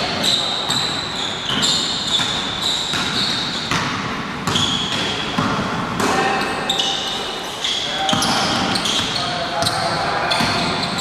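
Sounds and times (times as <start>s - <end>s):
basketball bouncing on gym floor: 0.0s - 7.2s, 8.0s - 11.0s
sneakers squeaking on court: 0.0s - 11.0s.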